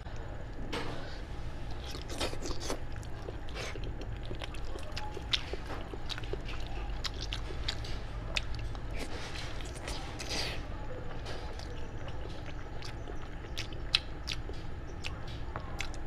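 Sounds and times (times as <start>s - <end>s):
chewing meat: 1.6s - 16.0s
small crunches: 1.7s - 16.0s.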